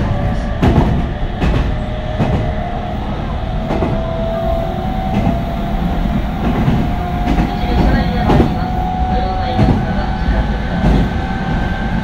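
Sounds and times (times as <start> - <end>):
low train rumble: 0.0 - 12.0.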